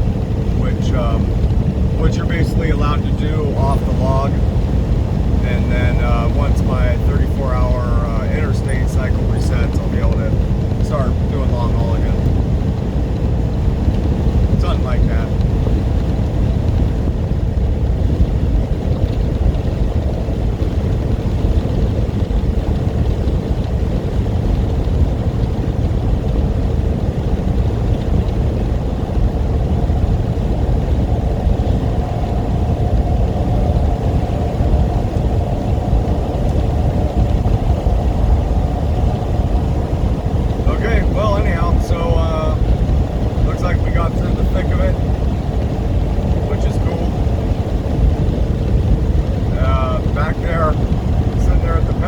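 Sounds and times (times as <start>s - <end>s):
higher hum: 0.0s - 52.0s
steady hum: 0.0s - 52.0s
truck engine and road noise: 0.0s - 52.0s.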